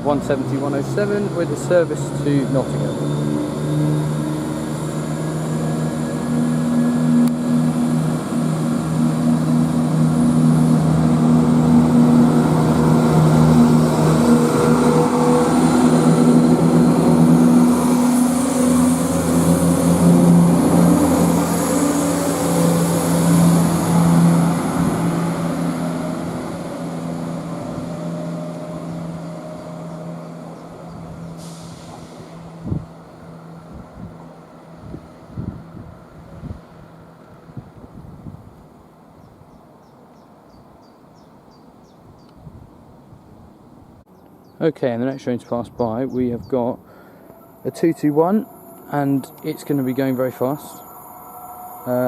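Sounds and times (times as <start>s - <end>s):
diesel train engines droning: 0.0s - 40.1s, 43.6s - 52.0s.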